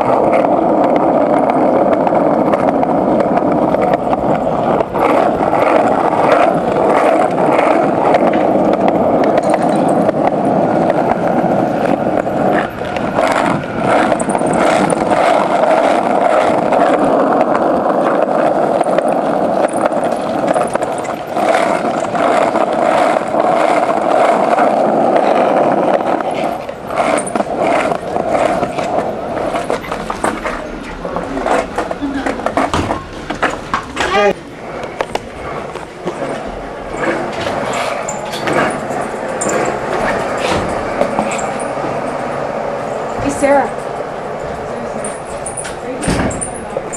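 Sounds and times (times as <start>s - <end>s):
skateboard wheels rolling on concrete: 0.0s - 46.9s
wheels clicking over sidewalk joints: 0.0s - 46.9s.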